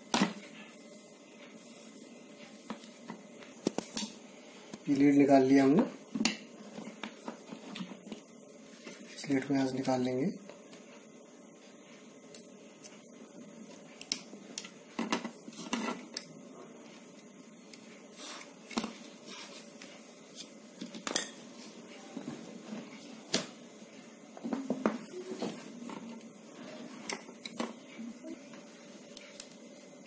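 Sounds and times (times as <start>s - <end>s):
faint steady background noise: 0.0s - 30.0s.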